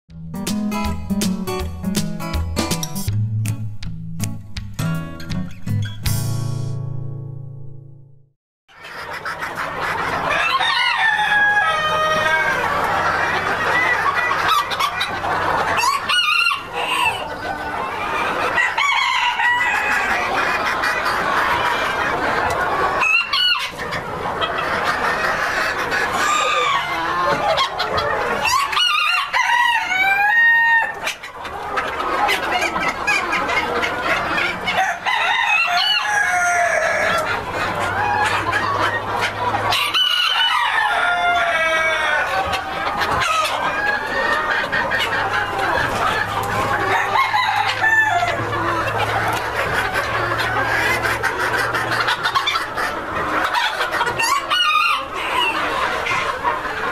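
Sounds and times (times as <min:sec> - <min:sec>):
chickens clucking and cackling: 0:08.7 - 0:56.9
roosters crowing: 0:09.7 - 0:31.1, 0:31.8 - 0:56.9.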